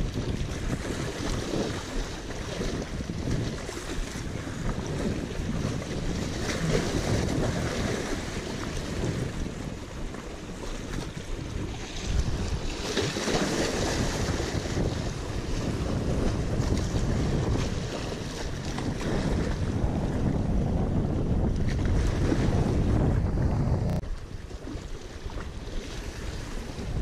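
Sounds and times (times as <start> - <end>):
waves splashing against rocks: 0.0 - 27.0
wind buffeting microphone: 0.0 - 27.0.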